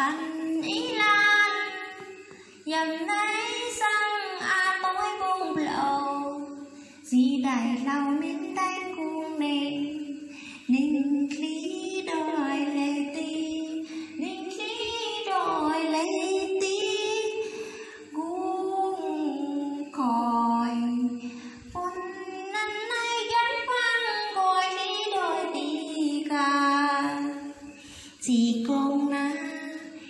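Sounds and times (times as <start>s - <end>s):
woman singing unaccompanied: 0.0s - 30.0s.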